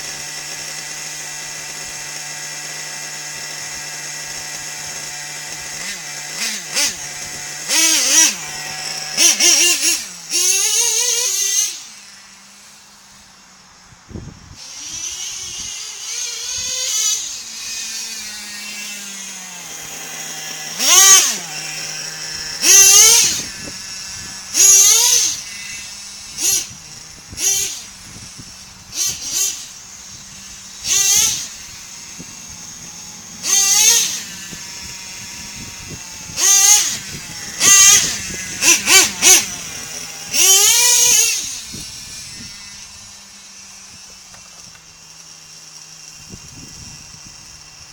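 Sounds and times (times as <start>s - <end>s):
electric motor whining in bursts: 0.0s - 47.9s.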